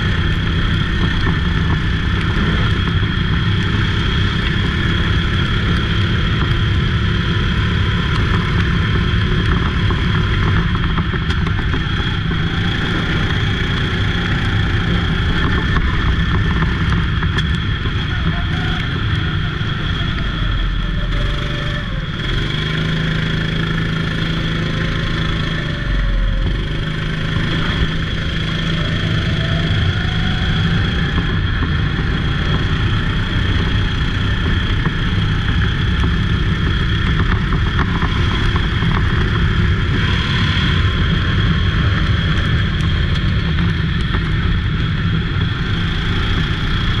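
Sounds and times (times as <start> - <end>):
go-kart engine running: 0.0 - 47.0.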